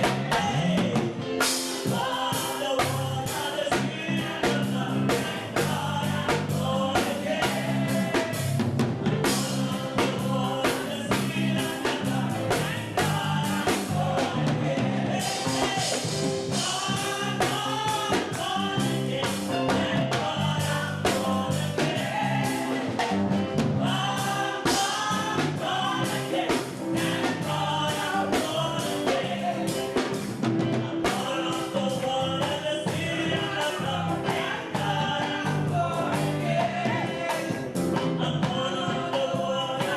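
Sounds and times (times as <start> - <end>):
band playing: 0.0 - 39.9
drums keeping a steady beat: 0.0 - 39.9
voices singing a melody: 0.0 - 39.9.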